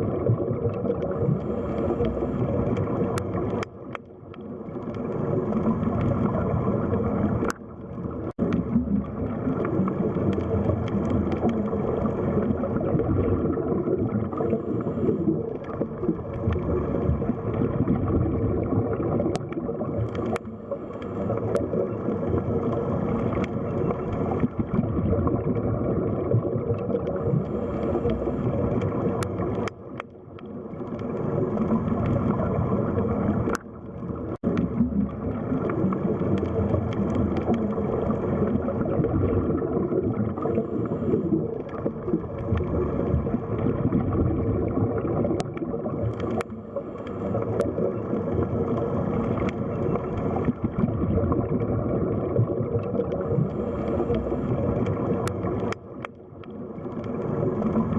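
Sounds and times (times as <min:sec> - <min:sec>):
underwater rush of water: 0:00.0 - 0:57.9.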